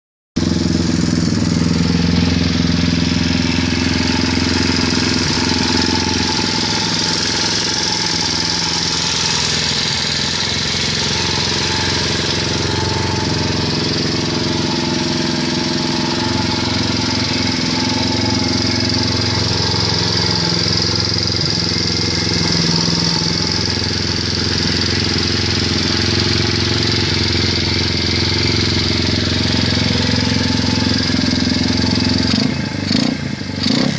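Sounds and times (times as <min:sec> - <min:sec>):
small engine idling: 0:00.4 - 0:33.9.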